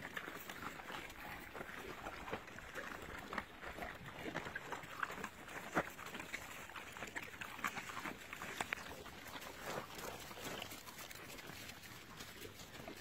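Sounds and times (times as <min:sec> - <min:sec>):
pigs chewing and crunching: 0:00.0 - 0:13.0.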